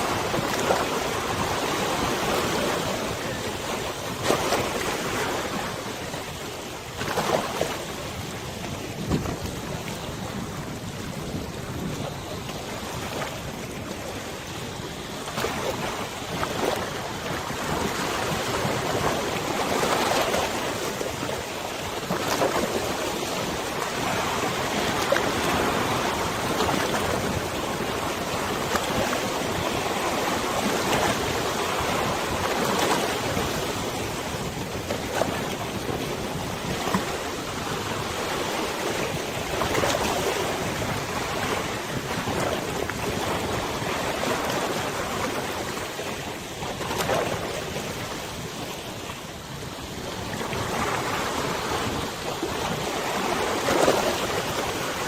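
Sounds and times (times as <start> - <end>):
river waves lapping: 0.0 - 55.0
wind: 0.0 - 55.0.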